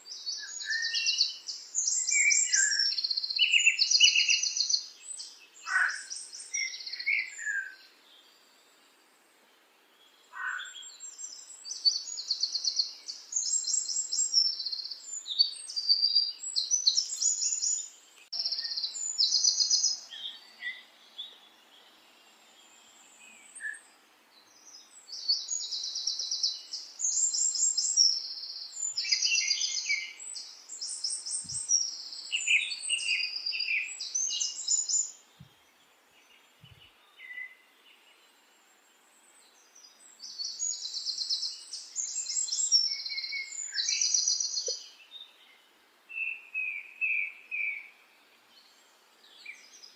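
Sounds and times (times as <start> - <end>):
songbird chirping and trilling: 0.0 - 49.9.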